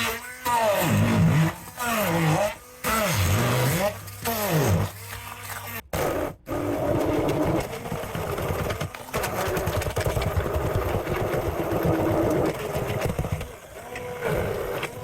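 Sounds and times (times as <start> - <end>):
hand blender running: 0.0 - 5.8, 6.5 - 15.0.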